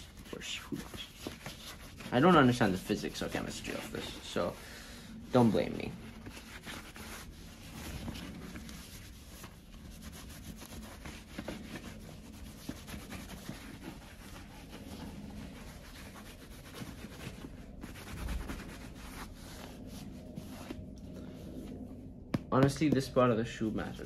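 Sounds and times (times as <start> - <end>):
cloth rubbing on leather boot: 0.0 - 4.6, 5.2 - 22.0.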